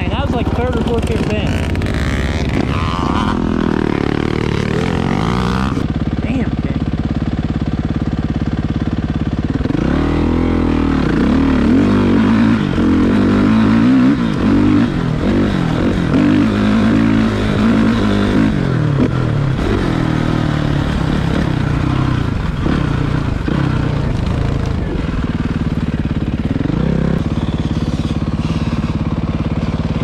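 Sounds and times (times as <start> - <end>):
motorbike engine revving: 0.0 - 30.0.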